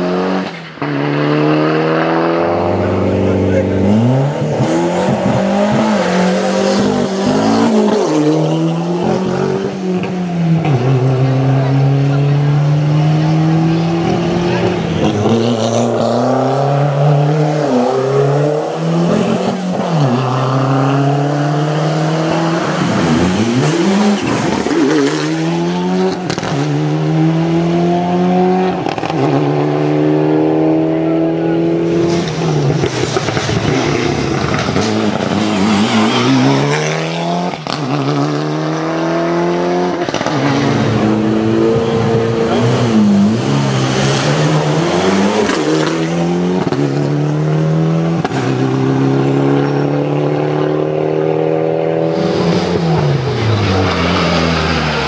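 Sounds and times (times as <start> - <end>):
rally car engines at full throttle: 0.0 - 55.0.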